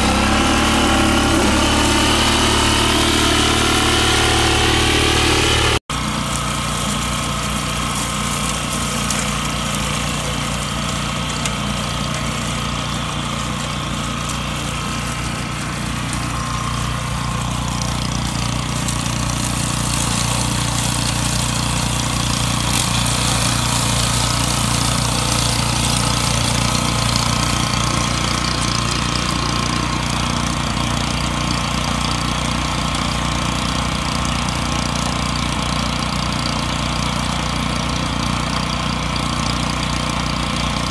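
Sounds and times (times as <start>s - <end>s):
grass cutter engine running: 0.0s - 40.9s.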